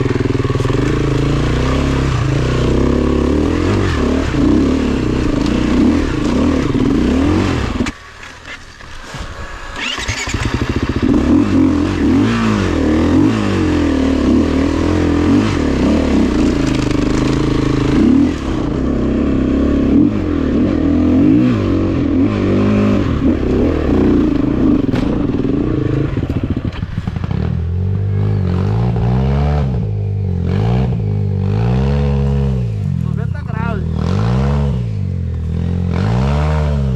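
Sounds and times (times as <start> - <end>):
dirt bike engine revving: 0.0 - 8.0, 9.3 - 36.9.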